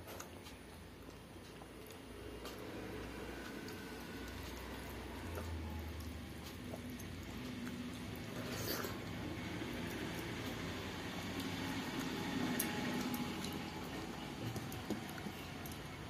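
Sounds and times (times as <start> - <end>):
wet chewing: 0.0 - 16.0.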